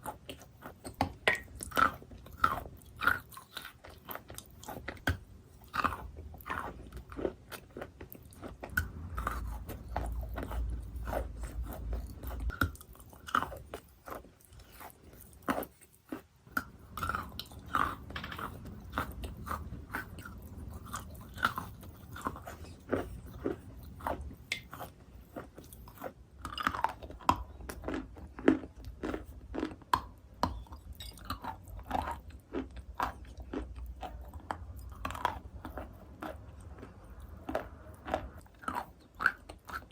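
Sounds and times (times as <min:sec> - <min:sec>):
person chewing chalk crunchily: 0:00.0 - 0:39.9.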